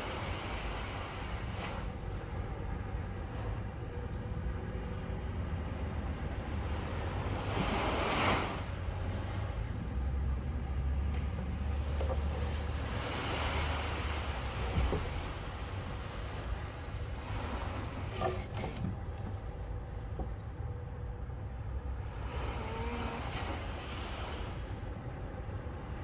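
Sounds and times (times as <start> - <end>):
ocean waves breaking: 0.0 - 20.7, 21.9 - 26.0.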